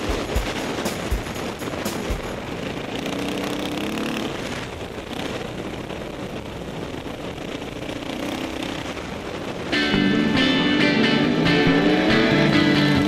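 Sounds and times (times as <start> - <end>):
off-road vehicle engine running: 0.0 - 13.0
wind and trail noise: 0.0 - 13.0.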